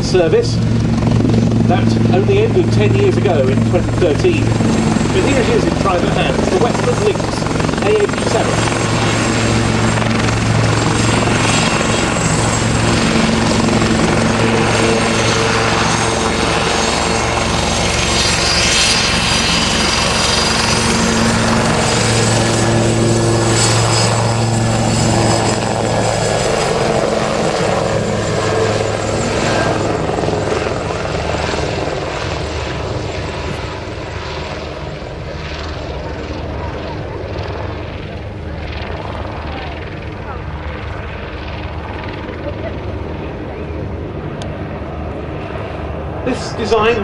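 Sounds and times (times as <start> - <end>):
helicopter rotor beat: 0.0 - 47.0
turbine engine whine: 0.0 - 47.0.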